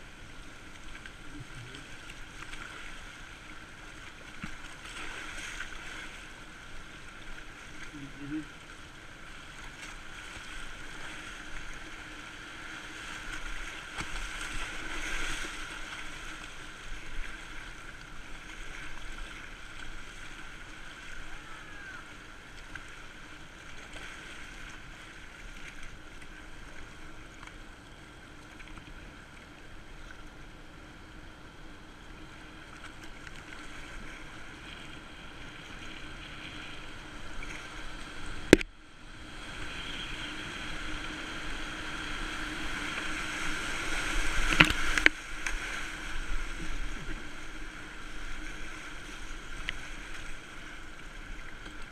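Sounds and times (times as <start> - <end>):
river water rushing and splashing: 0.0 - 51.9.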